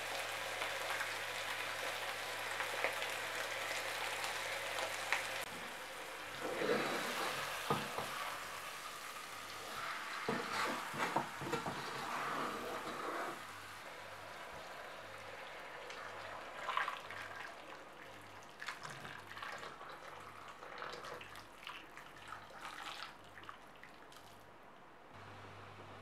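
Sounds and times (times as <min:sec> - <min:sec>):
water pouring into a pot: 0:00.0 - 0:24.4.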